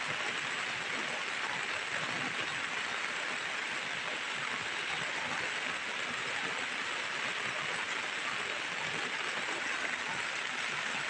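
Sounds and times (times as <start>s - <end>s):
heavy rain on hard surfaces: 0.0s - 11.0s.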